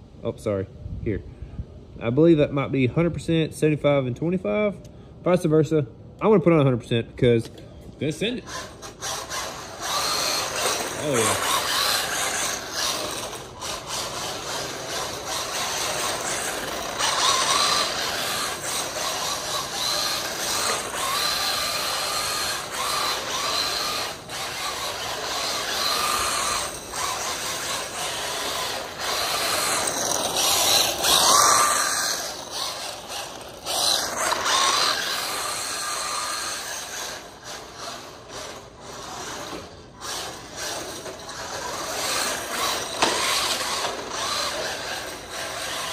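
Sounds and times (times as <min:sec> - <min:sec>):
electric motor whining: 0:08.4 - 0:45.9.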